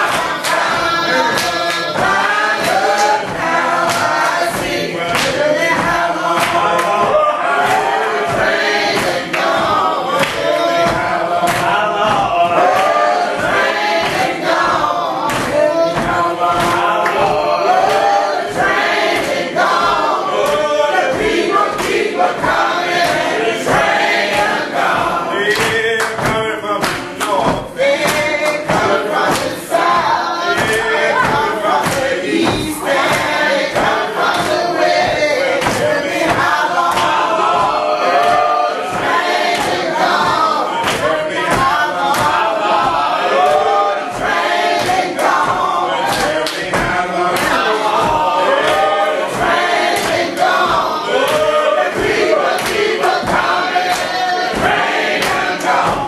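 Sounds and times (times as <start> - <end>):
congregation singing a hymn: 0.0 - 56.0
thumps or claps: 0.0 - 56.0.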